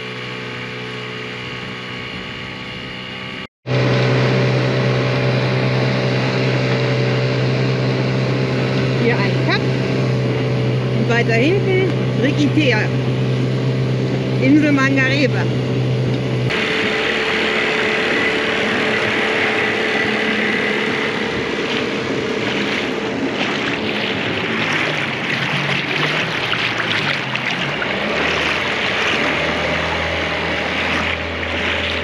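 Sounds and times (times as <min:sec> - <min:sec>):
small boat motor running: 0:00.0 - 0:32.0
water rushing past hull: 0:03.7 - 0:32.0
wind buffeting microphone: 0:05.1 - 0:32.0.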